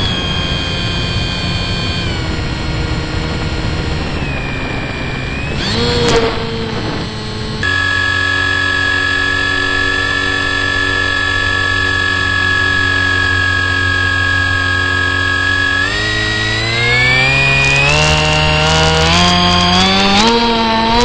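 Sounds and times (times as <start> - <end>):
model plane motor and propeller: 0.0 - 21.0.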